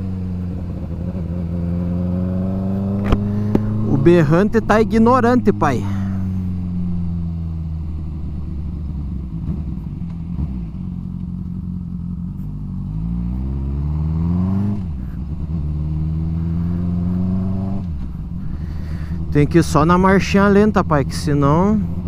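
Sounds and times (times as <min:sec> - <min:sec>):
motorcycle engine with loud exhaust: 0:00.0 - 0:22.0.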